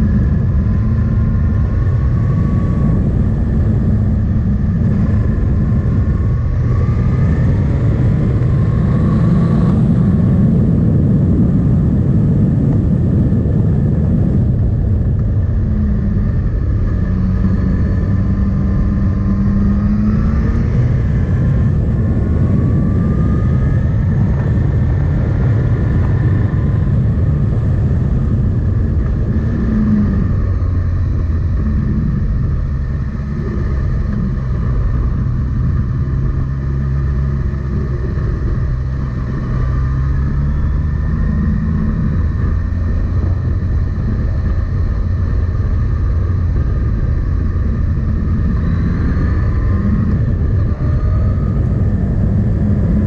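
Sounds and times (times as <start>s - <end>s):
motorcycle engine revving: 0.0s - 53.0s
road and wind noise: 0.0s - 53.0s.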